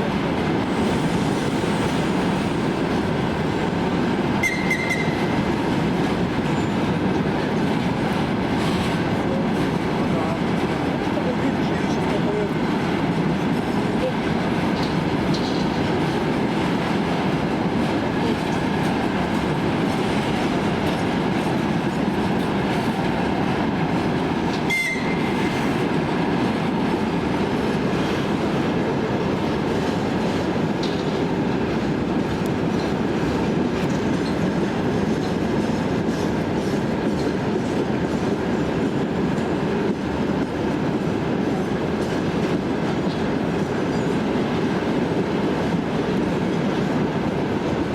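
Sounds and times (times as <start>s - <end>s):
train rumble: 0.0s - 47.9s
train wheels clattering on rails: 0.0s - 47.9s.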